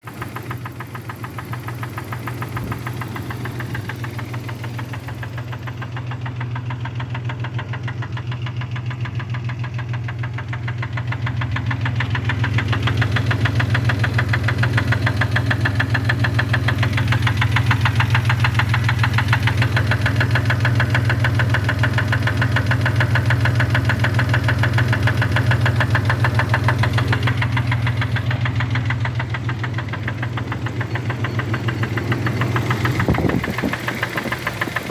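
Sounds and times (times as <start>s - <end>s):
engine running with rhythmic knock: 0.0s - 34.9s.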